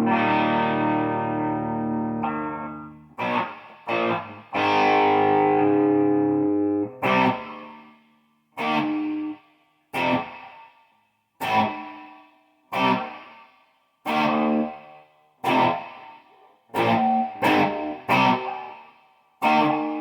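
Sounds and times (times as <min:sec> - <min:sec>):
electric guitar chords: 0:00.0 - 0:08.0, 0:08.6 - 0:10.6, 0:11.4 - 0:12.0, 0:12.7 - 0:13.3, 0:14.1 - 0:20.0.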